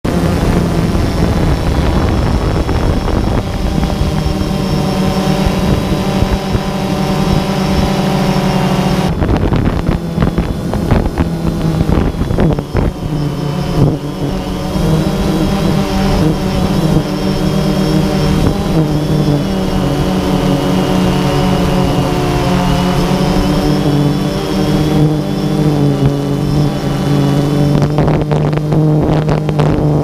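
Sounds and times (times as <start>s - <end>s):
drone motors humming: 0.0s - 30.0s
wind buffeting on microphone: 0.0s - 30.0s.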